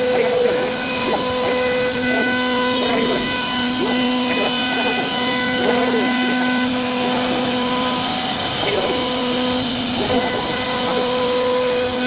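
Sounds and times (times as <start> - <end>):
wood carving router whine: 0.0 - 12.0.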